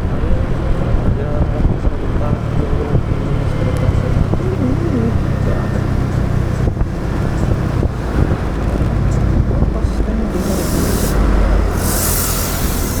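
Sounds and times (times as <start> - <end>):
motorbike engine running: 0.0 - 13.0
road and traffic noise: 0.0 - 13.0.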